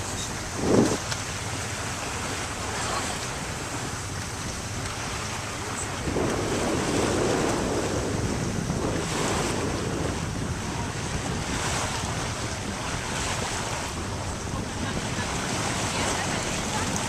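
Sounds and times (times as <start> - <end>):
water rushing past boat hull: 0.0 - 17.0
wind buffeting microphone: 0.0 - 17.0.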